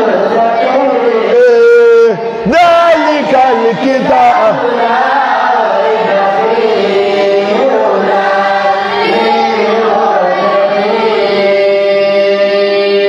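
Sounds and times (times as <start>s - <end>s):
man singing a chant: 0.0s - 13.0s.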